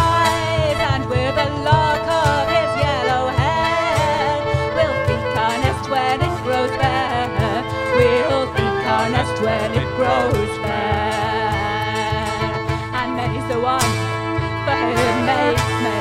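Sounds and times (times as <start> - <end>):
bass: 0.0 - 16.0
bowed fiddle melody: 0.0 - 16.0
cajon beat: 0.0 - 16.0
guitar: 0.0 - 16.0
hurdy-gurdy drone: 0.0 - 16.0.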